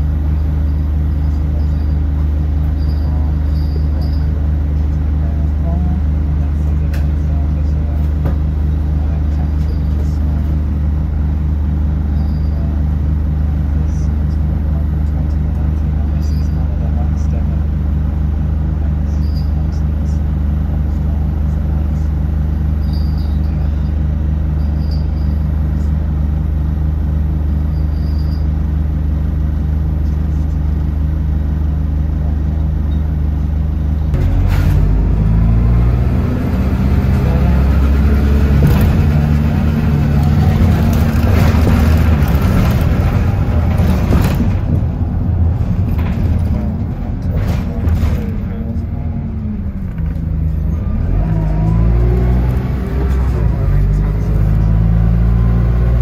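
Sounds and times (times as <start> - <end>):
bus engine idling and accelerating: 0.0 - 56.0.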